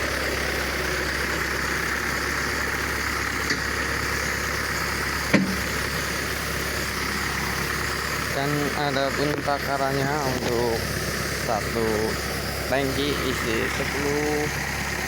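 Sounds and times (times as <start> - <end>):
engine driving sprayer pump: 0.0 - 15.0.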